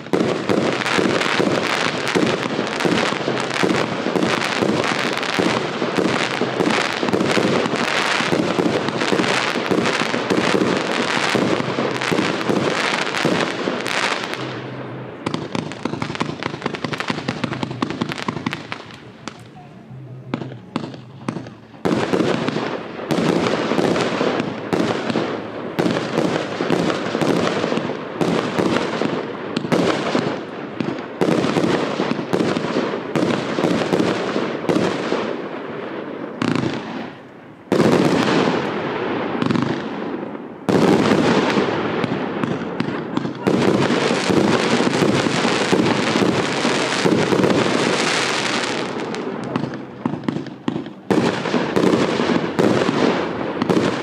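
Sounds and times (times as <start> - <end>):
crackling firework stars: 0.0 - 54.0
fireworks launching and bursting: 0.0 - 54.0.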